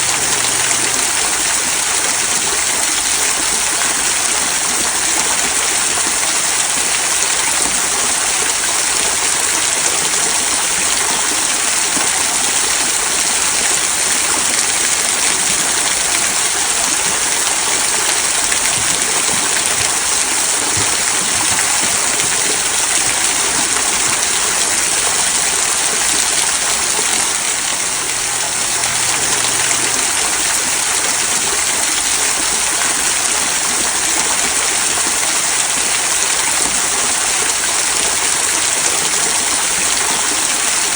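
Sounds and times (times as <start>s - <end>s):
small waterfall splashing into stream: 0.0s - 40.9s.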